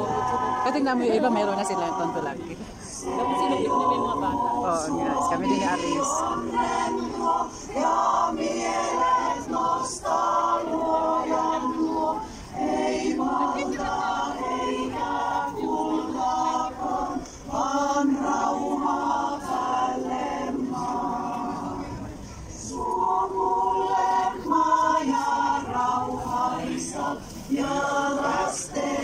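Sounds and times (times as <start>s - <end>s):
women's choir singing: 0.0s - 29.0s.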